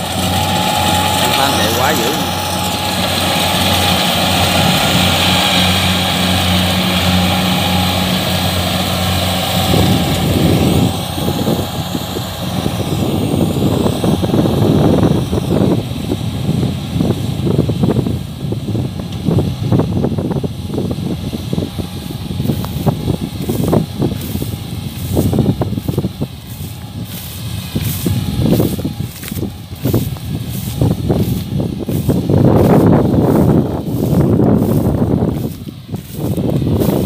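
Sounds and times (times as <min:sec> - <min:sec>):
combine harvester humming: 0:00.0 - 0:37.0
gusting low rumble: 0:00.0 - 0:37.0.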